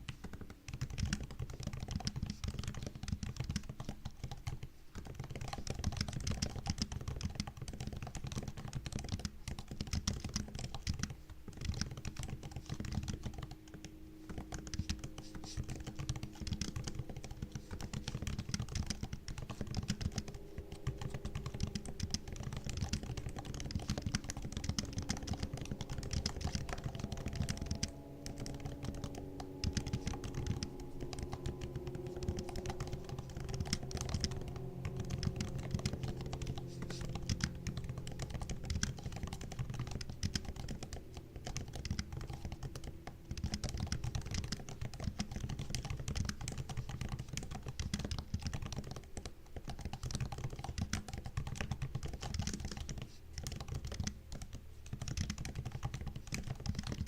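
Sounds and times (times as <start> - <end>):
laptop keyboard typing: 0.0 - 57.0.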